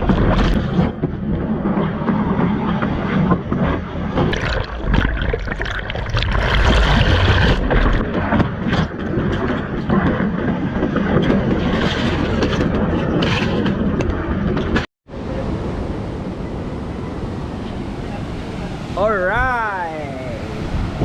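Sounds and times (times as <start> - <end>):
rushing water: 0.0 - 13.5, 15.1 - 21.0
wind buffeting microphone: 0.0 - 21.0.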